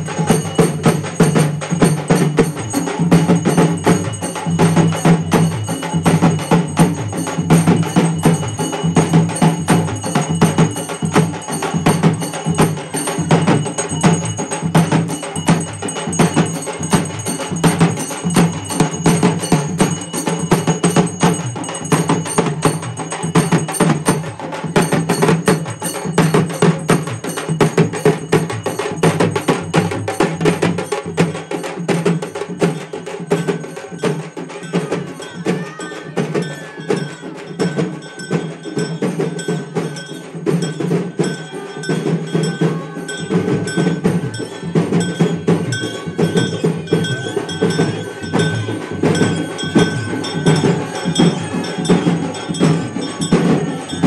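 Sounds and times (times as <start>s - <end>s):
frame drums beaten with sticks: 0.0s - 54.0s.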